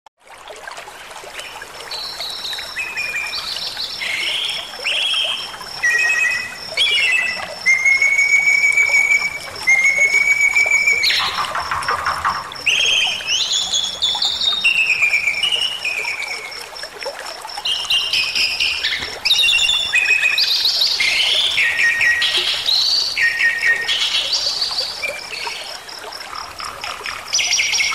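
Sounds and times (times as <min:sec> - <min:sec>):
stream rushing: 0:00.3 - 0:27.9
bird whistling song: 0:02.0 - 0:16.6, 0:17.6 - 0:25.7.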